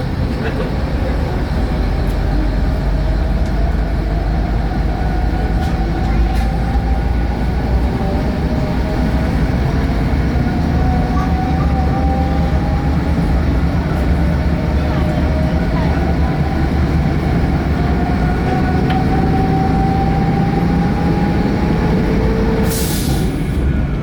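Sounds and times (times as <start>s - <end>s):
train engine and wheels rumbling: 0.0s - 24.0s.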